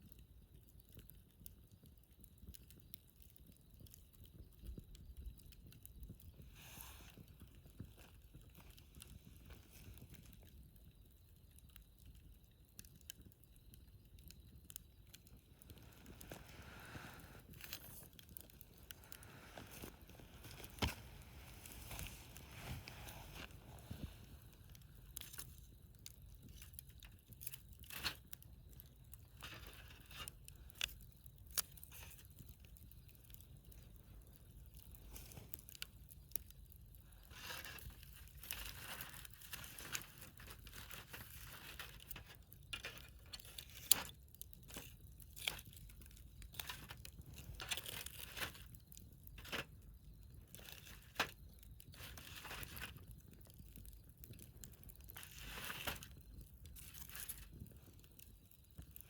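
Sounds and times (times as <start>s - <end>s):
wood fire crackling: 0.0s - 59.0s
soft fire hiss: 4.3s - 12.0s, 12.6s - 53.1s.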